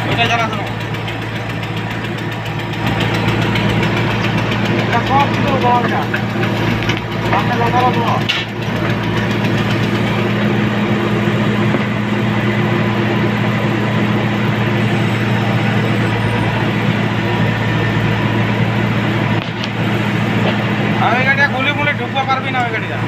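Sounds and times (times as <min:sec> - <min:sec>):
backhoe diesel engine running: 0:00.0 - 0:23.0.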